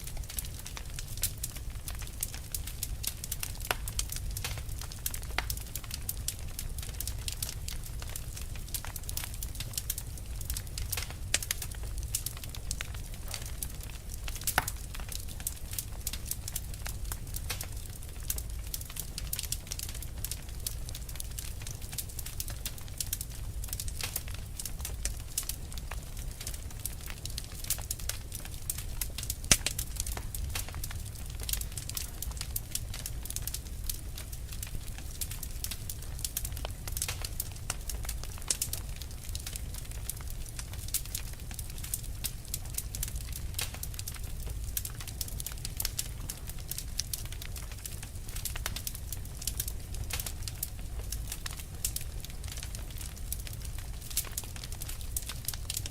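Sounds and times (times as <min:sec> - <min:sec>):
fire crackling: 0:00.0 - 0:55.9.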